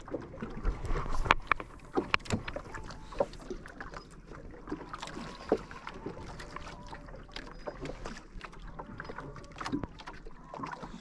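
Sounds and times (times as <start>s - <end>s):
knocks and splashes: 0.0s - 11.0s
small waves lapping against canoe: 0.0s - 11.0s.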